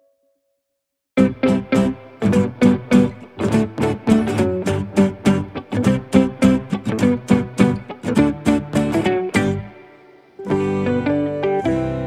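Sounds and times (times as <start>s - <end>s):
plucked guitar notes: 1.2s - 12.0s.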